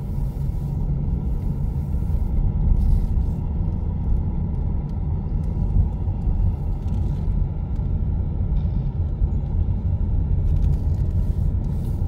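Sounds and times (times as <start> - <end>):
car interior engine and road noise: 0.0 - 12.0.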